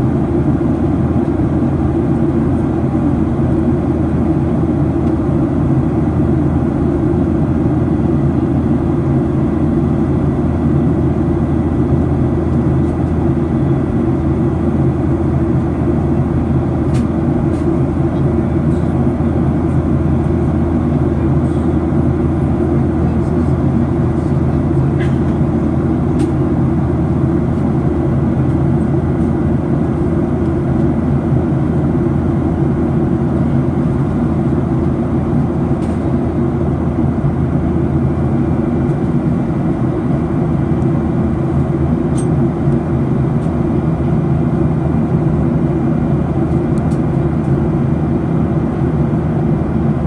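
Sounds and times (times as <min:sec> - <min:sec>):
jet engine drone in cabin: 0:00.0 - 0:50.0.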